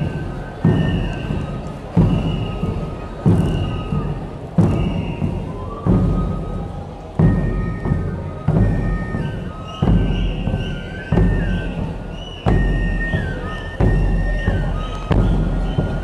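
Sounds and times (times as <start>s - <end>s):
flute playing high tune: 0.0s - 16.0s
heavy drum beats: 0.0s - 16.0s.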